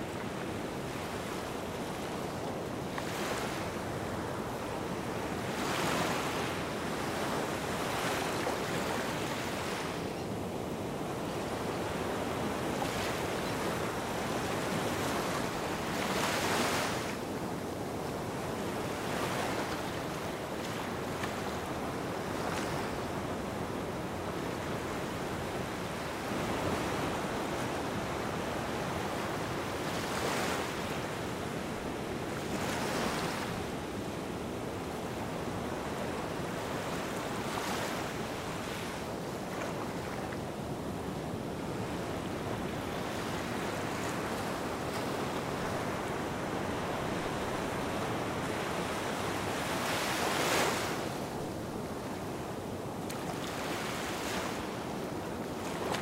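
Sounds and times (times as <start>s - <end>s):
small waves washing onto beach: 0.0s - 56.0s.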